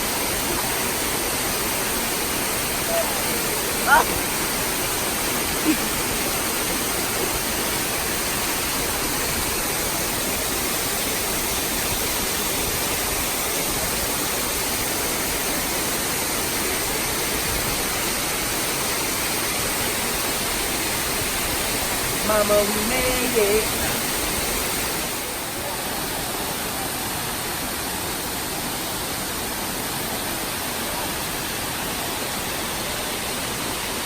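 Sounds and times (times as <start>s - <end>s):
waterfall rushing into pool: 0.0s - 34.0s.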